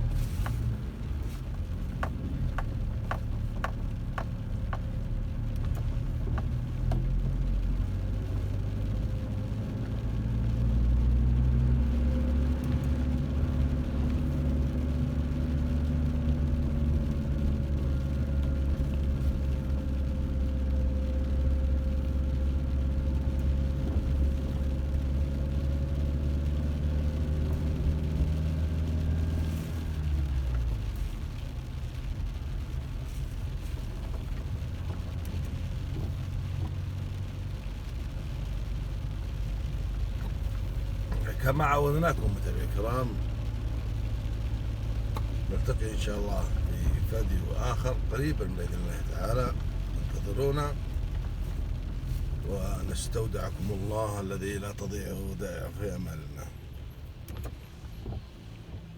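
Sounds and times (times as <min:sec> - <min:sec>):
car engine while driving: 0:00.0 - 0:58.9
road noise: 0:00.0 - 0:58.9.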